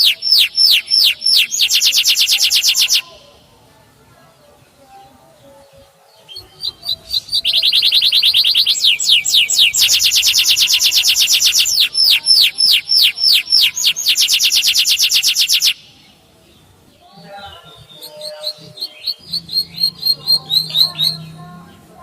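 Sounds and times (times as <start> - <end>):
canary singing: 0.0 - 3.5, 4.4 - 22.0.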